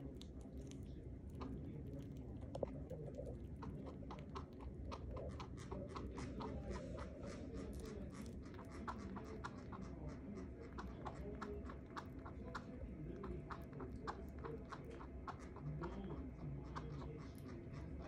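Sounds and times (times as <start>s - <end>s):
chinchilla chewing clicks: 0.0s - 18.0s.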